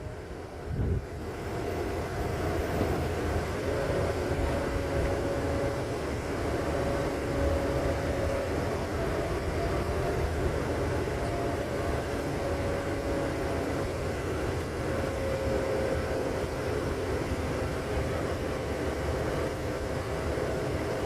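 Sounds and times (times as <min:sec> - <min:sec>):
faint steady whine: 0:00.0 - 0:21.0
vehicle low rumble: 0:00.0 - 0:21.0.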